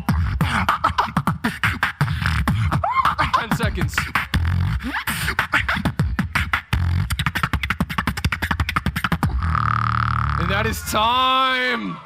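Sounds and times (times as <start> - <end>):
person beatboxing: 0.0 - 10.8.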